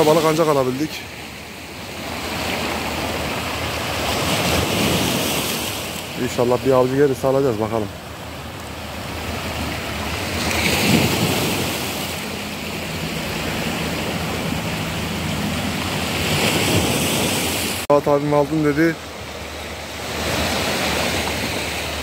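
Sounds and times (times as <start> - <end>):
sea surf breaking on shore: 0.0 - 22.0.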